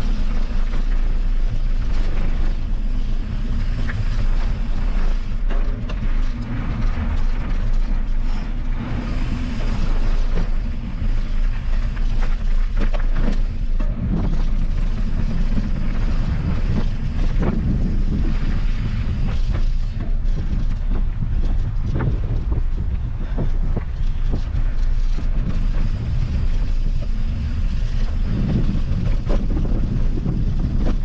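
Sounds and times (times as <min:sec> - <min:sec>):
bike clicks and rattles: 0:00.0 - 0:31.0
bike tyres on trail: 0:00.0 - 0:31.0
wind rumble on microphone: 0:00.0 - 0:31.0.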